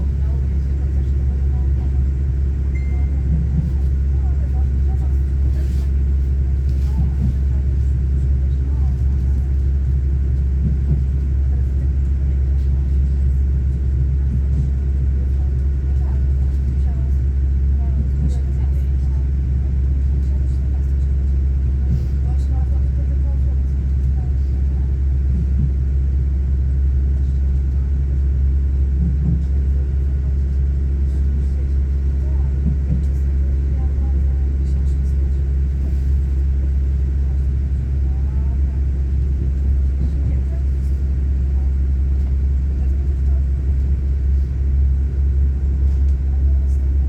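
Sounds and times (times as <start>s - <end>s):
train rumbling along tracks: 0.0s - 47.0s.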